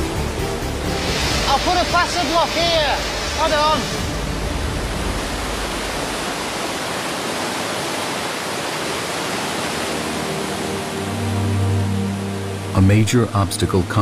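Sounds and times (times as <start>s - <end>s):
river rushing over rocks: 0.9s - 12.8s.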